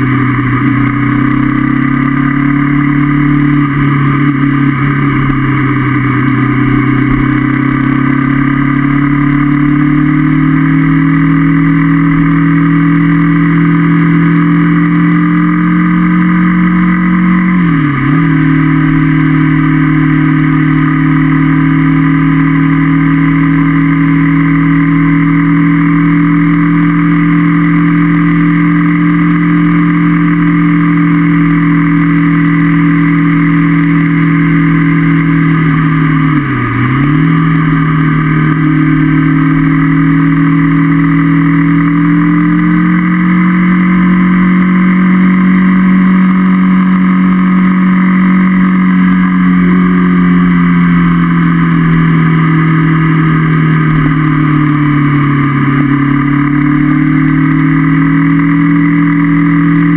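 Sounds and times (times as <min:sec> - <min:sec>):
motorcycle engine under way: 0:00.0 - 0:59.9.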